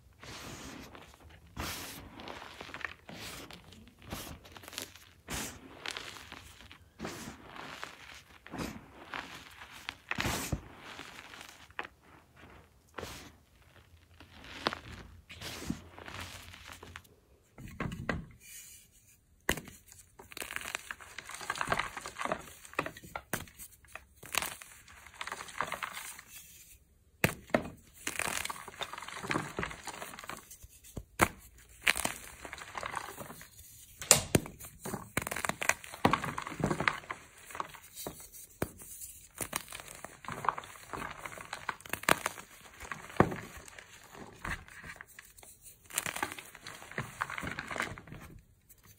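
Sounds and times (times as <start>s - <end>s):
chalk crunching and crumbling: 0.0s - 17.1s, 18.5s - 48.9s.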